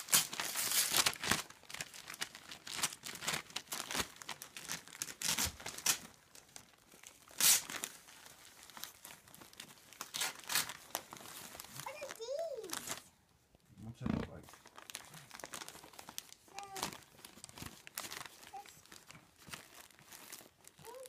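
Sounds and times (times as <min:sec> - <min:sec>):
wrapping paper crinkling and tearing: 0:00.0 - 0:13.1, 0:14.2 - 0:21.0.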